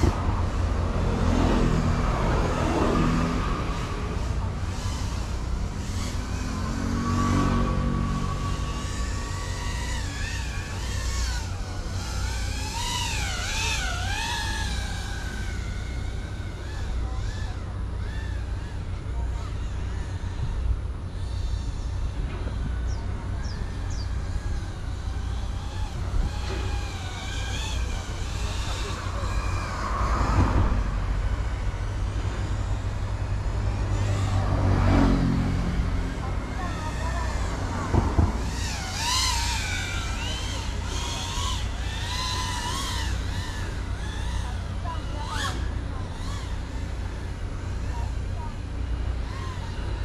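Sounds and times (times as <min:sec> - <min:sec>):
vehicle engine passing: 0:00.0 - 0:20.3, 0:21.1 - 0:50.0
drone motors whining: 0:00.0 - 0:50.0
traffic rumble: 0:00.0 - 0:50.0.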